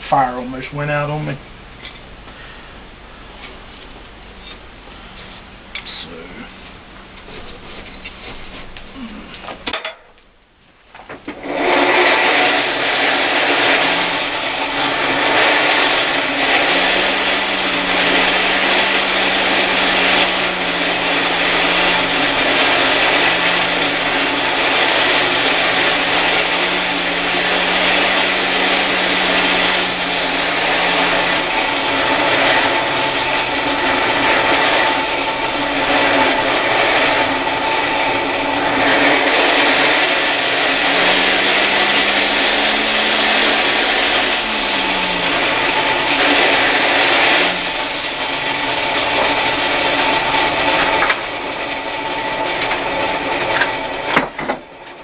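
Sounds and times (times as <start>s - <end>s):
forge blower rushing air: 0.0s - 55.0s.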